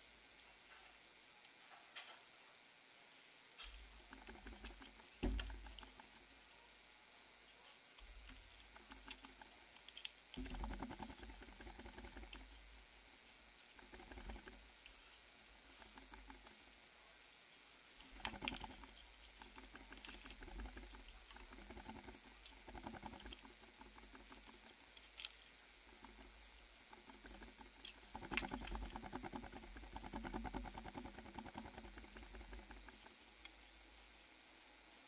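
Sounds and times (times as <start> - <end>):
faint rapid scratching clicks: 0.0 - 35.0.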